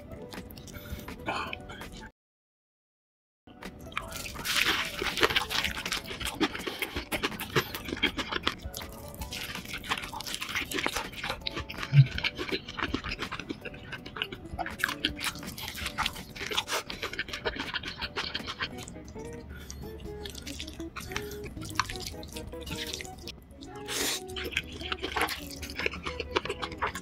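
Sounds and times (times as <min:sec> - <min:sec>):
crunching and chewing: 0:00.2 - 0:01.6, 0:03.8 - 0:27.0.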